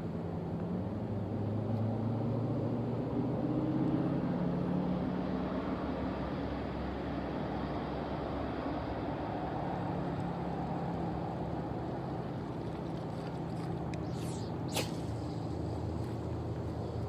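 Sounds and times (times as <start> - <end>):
distant motor engines droning: 0.0 - 17.0.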